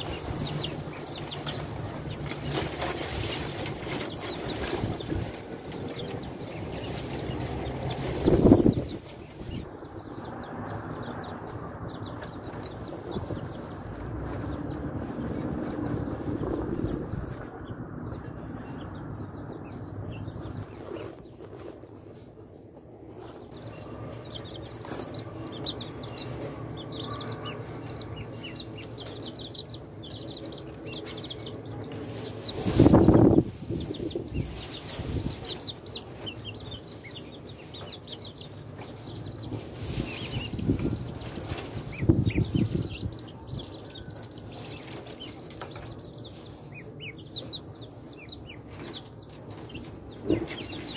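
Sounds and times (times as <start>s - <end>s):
chicks and ducklings peeping: 0.0s - 50.9s.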